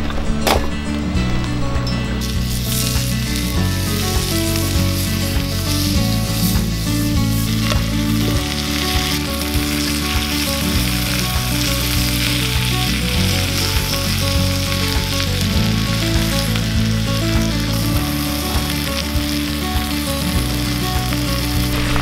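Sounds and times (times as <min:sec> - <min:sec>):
meat and cabbage sizzling in skillet: 0:02.2 - 0:22.0.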